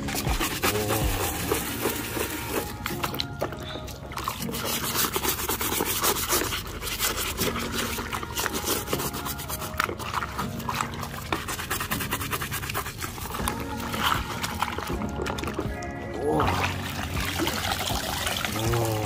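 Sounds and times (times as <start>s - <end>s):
brush scrubbing plastic: 0.0s - 15.9s.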